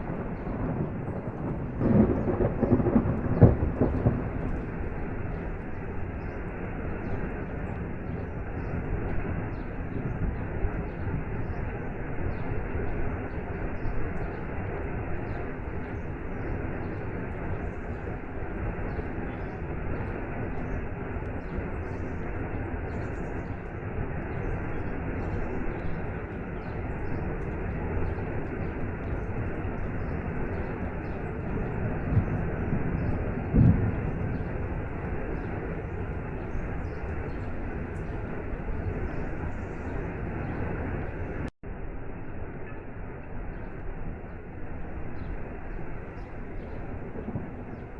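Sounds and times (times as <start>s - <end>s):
rain: 0.0s - 47.9s.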